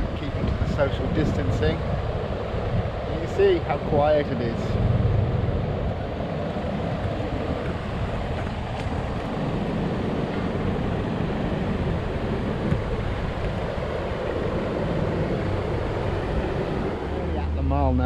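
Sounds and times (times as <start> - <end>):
outdoor hiss and rumble: 0.0 - 18.0.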